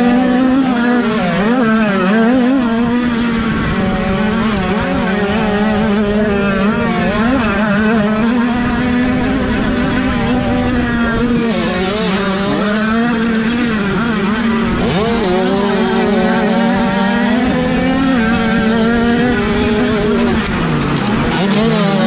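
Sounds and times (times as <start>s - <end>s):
high-pitched two-stroke engine: 0.0s - 22.0s
motocross bike engines revving: 0.0s - 22.0s.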